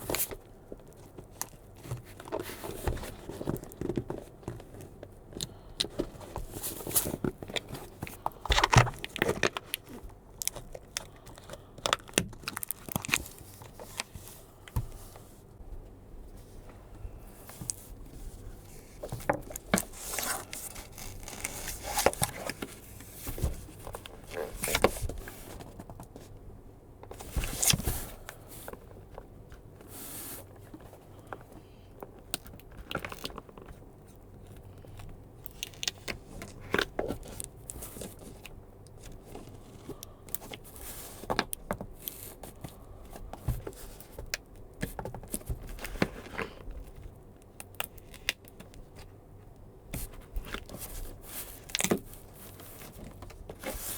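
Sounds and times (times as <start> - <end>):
cardboard and paper rustling: 0.0 - 26.4, 27.1 - 33.9, 34.5 - 47.2, 49.9 - 53.9.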